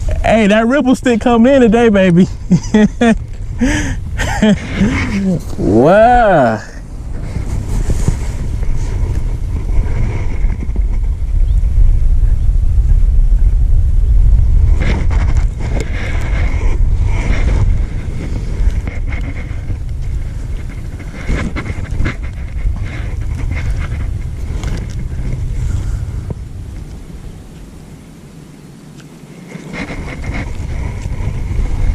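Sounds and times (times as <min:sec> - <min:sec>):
wind rumbling on microphone: 0:00.0 - 0:31.9.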